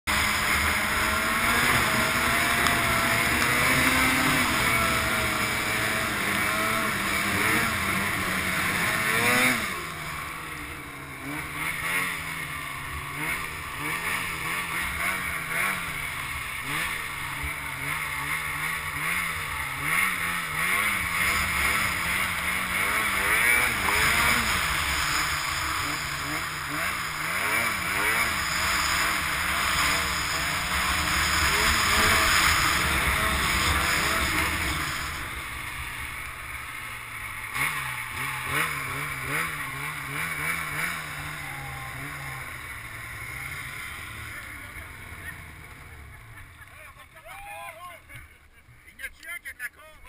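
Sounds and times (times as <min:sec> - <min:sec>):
snowmobile engine revving: 0:00.0 - 0:50.0.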